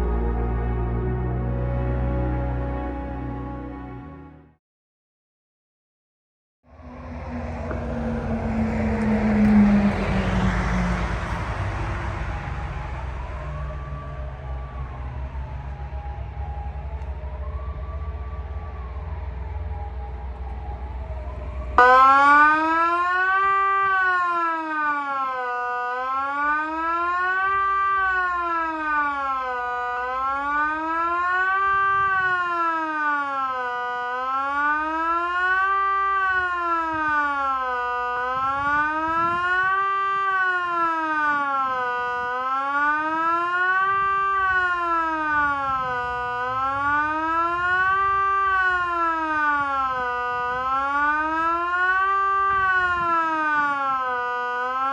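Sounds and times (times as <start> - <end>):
wailing siren: 0.0 - 4.2, 6.7 - 54.9.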